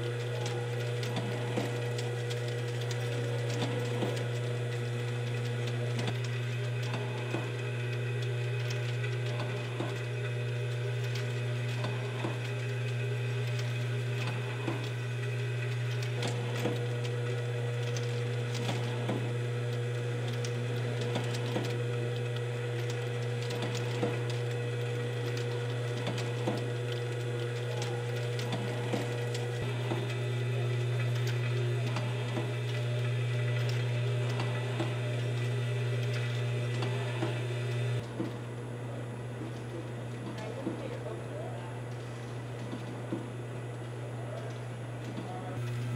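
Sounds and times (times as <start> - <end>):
small mechanical clicks and ticks: 0.0 - 38.4
machine humming: 0.0 - 45.9.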